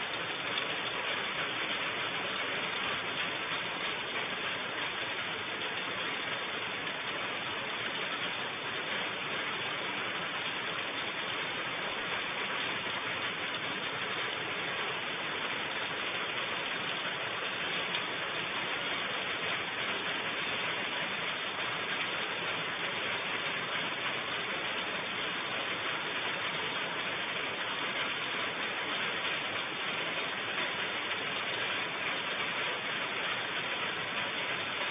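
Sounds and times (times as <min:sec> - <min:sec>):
rain falling: 0:00.0 - 0:34.9.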